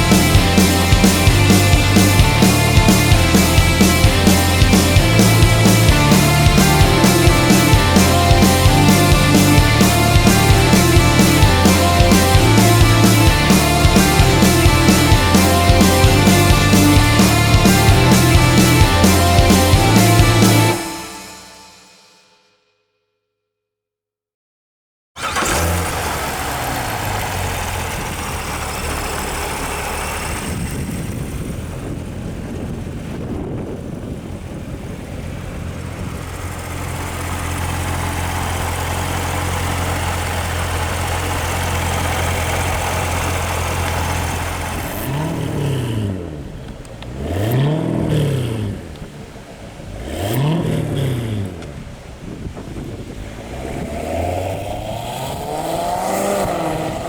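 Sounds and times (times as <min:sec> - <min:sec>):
car engine idling: 0:00.0 - 0:21.7, 0:25.2 - 0:57.0
engine revving: 0:00.0 - 0:21.7, 0:25.2 - 0:52.2, 0:53.0 - 0:57.0.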